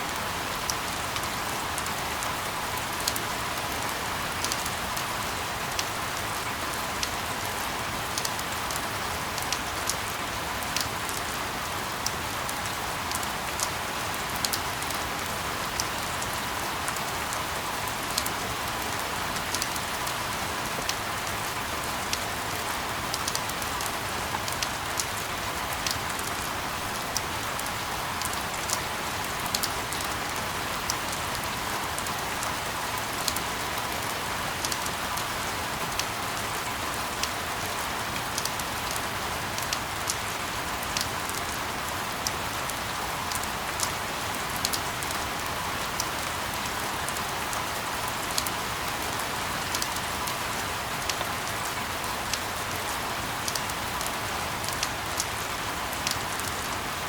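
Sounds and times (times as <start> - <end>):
rain drops ticking on a surface: 0.0 - 57.0.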